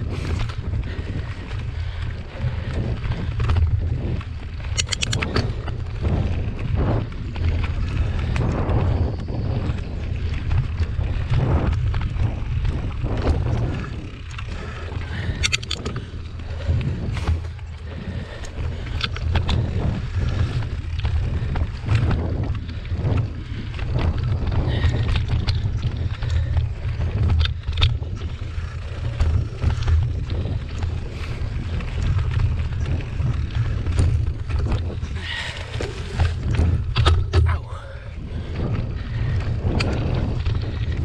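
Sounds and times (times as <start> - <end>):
bike clicks and knocks: 0.0 - 41.0
wind buffeting microphone: 0.0 - 41.0.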